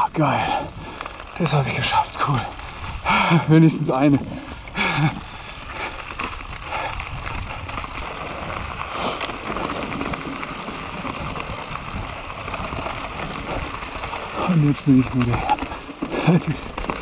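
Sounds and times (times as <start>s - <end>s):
bike rattling: 0.0s - 17.0s
tyres rolling over dirt: 0.0s - 17.0s
wind rumbling on microphone: 0.0s - 17.0s.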